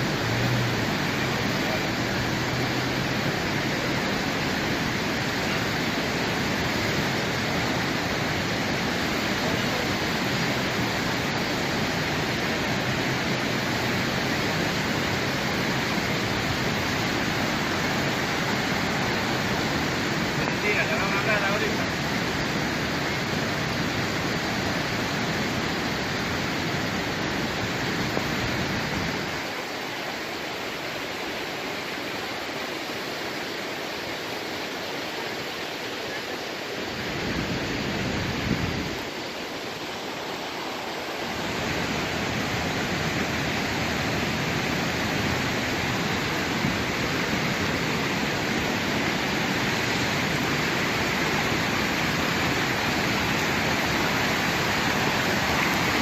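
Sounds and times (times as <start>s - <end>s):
heavy rain: 0.0s - 56.0s
running water: 0.0s - 56.0s.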